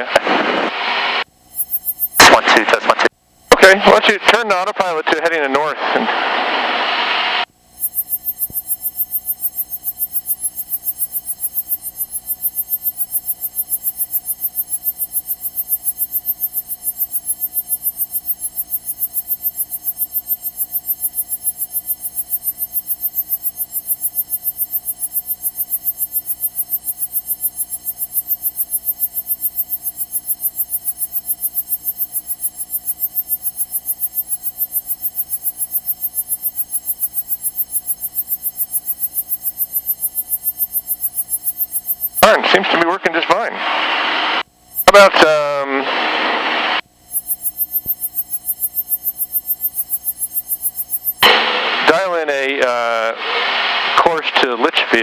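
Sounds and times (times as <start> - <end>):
steady hum and hiss: 0.0 - 55.0.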